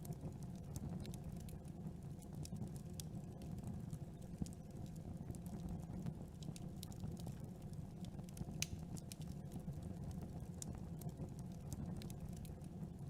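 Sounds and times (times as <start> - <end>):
campfire crackling: 0.0 - 13.0
low rumble of flame: 0.0 - 13.0.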